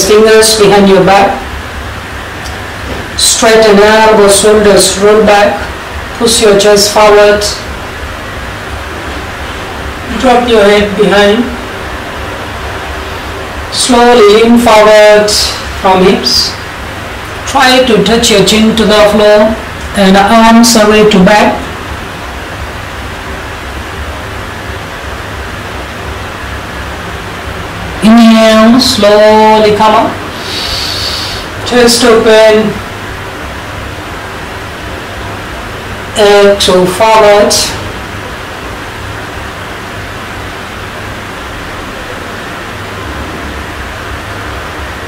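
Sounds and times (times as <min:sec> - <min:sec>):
steady microphone hiss: 0:00.0 - 0:45.0.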